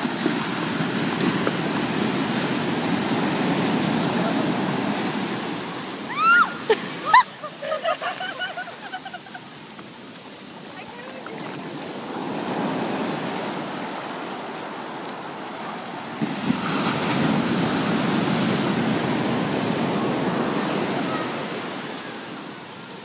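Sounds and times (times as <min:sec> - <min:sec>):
foam washing up shore: 0:00.0 - 0:23.0
ocean surf breaking: 0:00.0 - 0:23.0.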